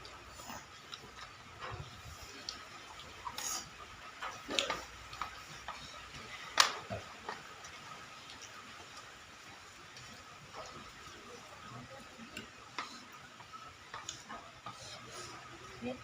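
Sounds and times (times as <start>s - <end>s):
slurping and chewing: 0.0s - 15.8s.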